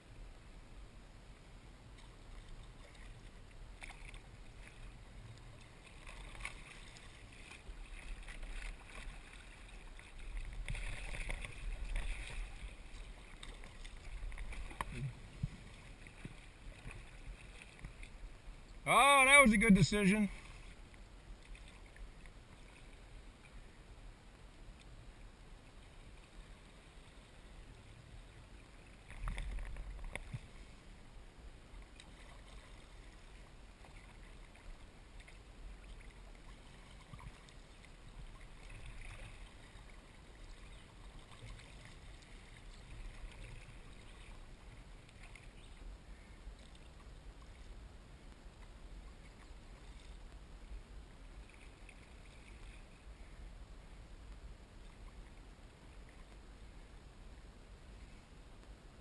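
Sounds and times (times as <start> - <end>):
water trickling along hull: 0.0 - 59.0
kayak paddle splashing: 1.9 - 58.7.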